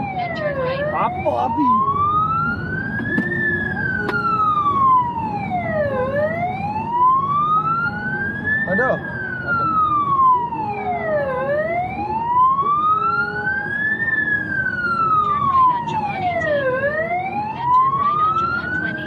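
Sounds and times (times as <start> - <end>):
siren wailing: 0.0 - 19.0
vehicle rumble: 0.0 - 19.0.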